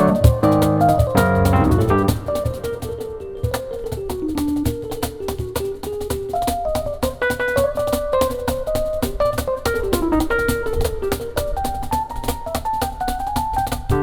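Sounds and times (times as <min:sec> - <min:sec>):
light percussion strikes: 0:00.0 - 0:14.0
piano melody: 0:00.0 - 0:14.0.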